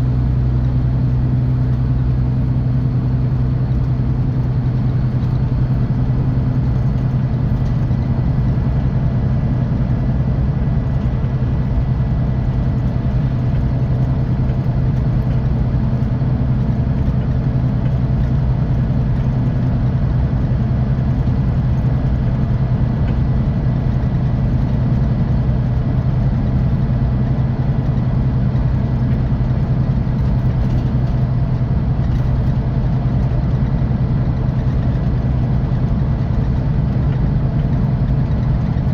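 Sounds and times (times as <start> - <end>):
diesel engine humming: 0.0 - 38.9
road noise: 0.0 - 38.9.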